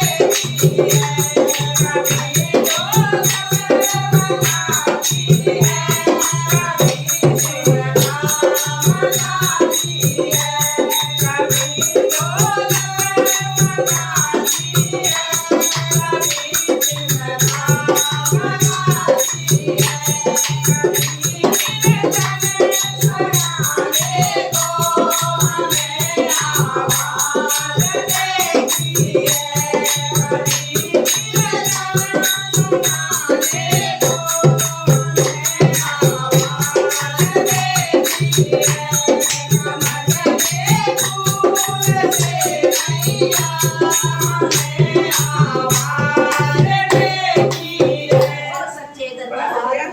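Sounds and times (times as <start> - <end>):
devotional music with rattle rhythm: 0.0 - 49.1.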